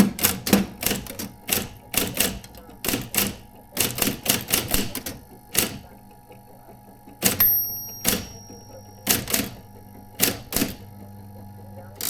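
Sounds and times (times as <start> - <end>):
electric typewriter key strikes: 0.0 - 6.0, 7.1 - 11.1.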